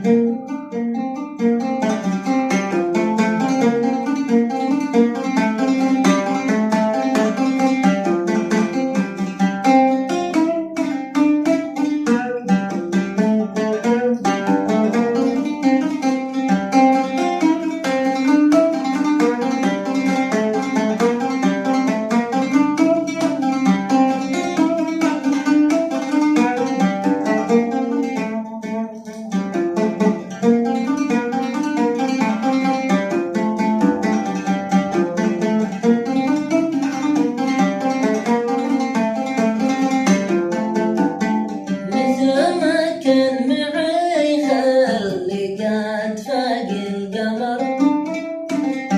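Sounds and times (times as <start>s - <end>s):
plucked string instrument music: 0.0s - 48.9s.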